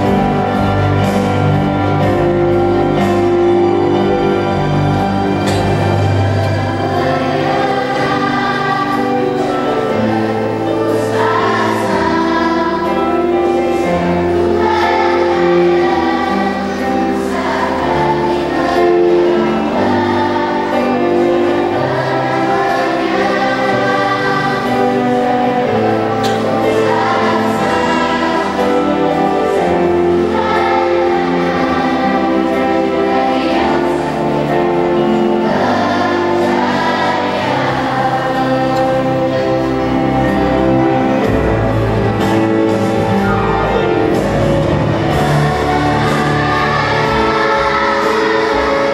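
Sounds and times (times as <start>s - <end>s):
instrumental accompaniment: 0.0s - 48.9s
youth choir singing in unison: 0.0s - 48.9s.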